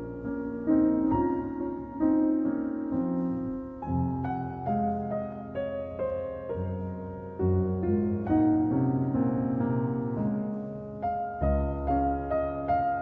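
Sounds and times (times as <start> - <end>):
slow gentle piano melody: 0.0 - 13.0.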